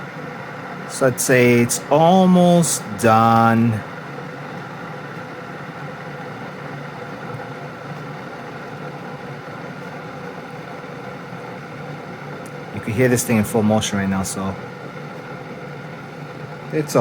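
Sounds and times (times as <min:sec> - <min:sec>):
coffee maker humming and hissing: 0:00.0 - 0:17.0.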